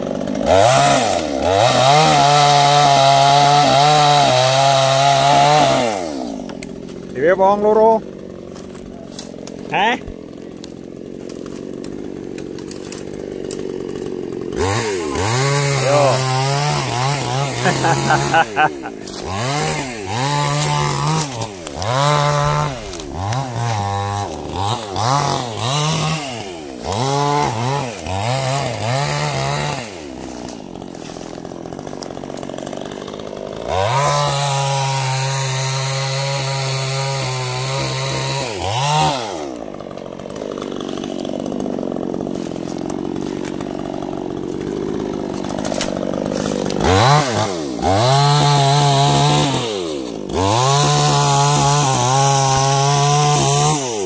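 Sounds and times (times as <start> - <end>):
chainsaw revving while cutting wood: 0.0 - 54.0.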